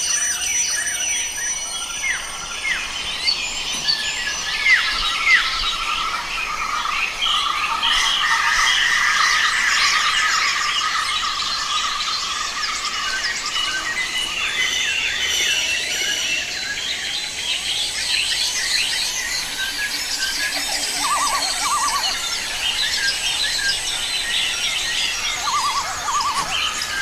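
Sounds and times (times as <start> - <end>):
birds chirping and calling: 0.1 - 27.0.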